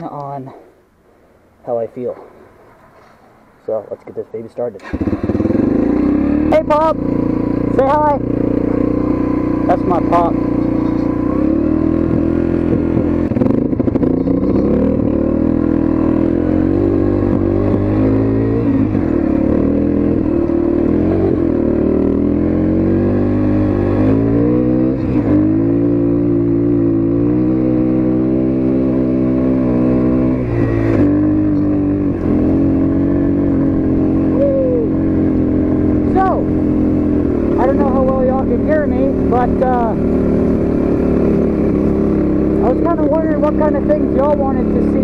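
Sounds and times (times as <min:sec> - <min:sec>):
dirt bike engine revving: 0:04.8 - 0:45.0.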